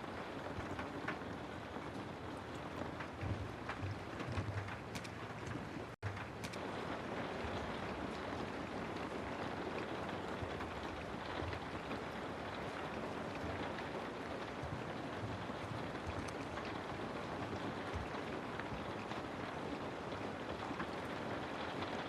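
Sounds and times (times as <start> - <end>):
steady rainfall hiss: 0.0 - 22.0.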